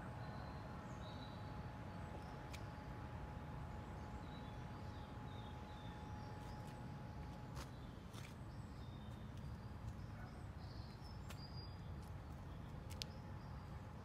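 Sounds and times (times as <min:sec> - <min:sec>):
low steady outdoor rumble: 0:00.0 - 0:14.0.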